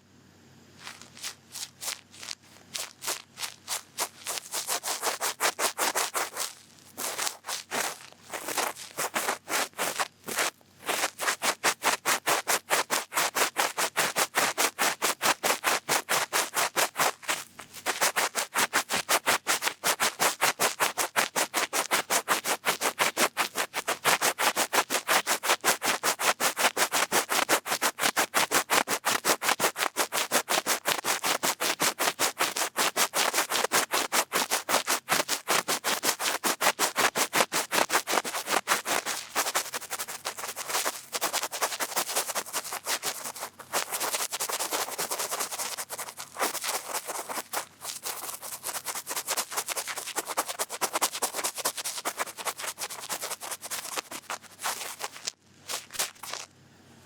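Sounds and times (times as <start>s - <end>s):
cotton bud rubbing on microphone: 0.8s - 56.4s.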